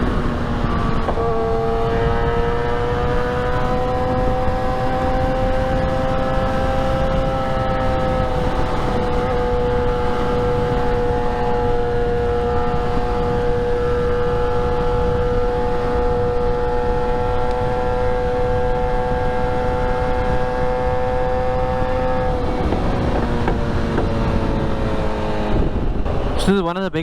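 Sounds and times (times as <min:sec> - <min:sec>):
motorcycle engine cruising: 0:00.0 - 0:26.6
wind rushing over microphone: 0:00.0 - 0:27.0.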